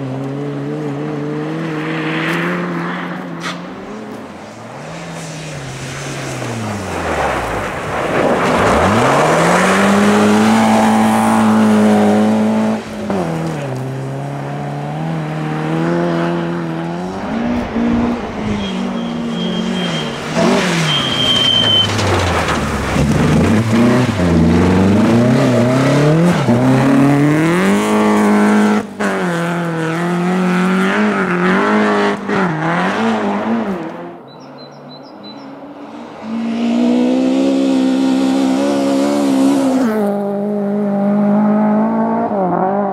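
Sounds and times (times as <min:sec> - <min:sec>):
rally car engine revving: 0:00.0 - 0:34.7, 0:35.8 - 0:42.9.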